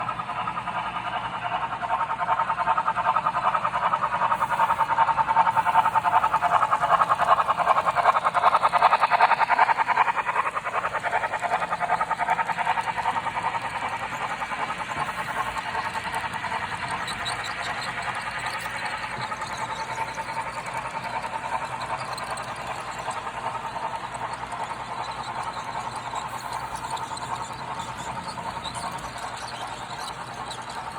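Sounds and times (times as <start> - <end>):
model train rattling on track: 0.0 - 30.9.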